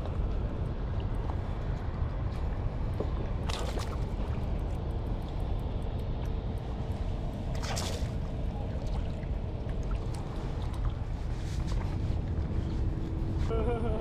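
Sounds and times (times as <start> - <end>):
sea water sloshing and splashing: 0.0 - 13.3
faint hum: 0.0 - 14.0.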